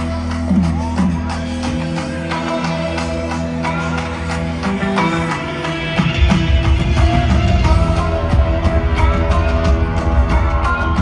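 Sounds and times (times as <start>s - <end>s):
loud instrumental music heavy bass: 0.0s - 11.0s.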